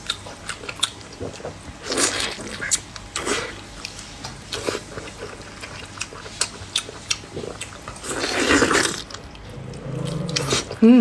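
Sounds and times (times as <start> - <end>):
wet chewing clicks and smacks: 0.0 - 10.8.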